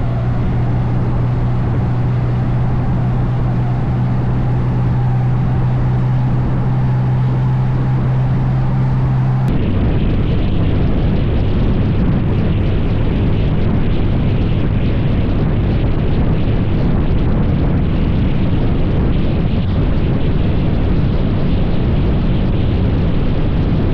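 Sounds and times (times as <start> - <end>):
faint engine drone: 0.0 - 23.9
wind buffeting microphone: 0.0 - 23.9.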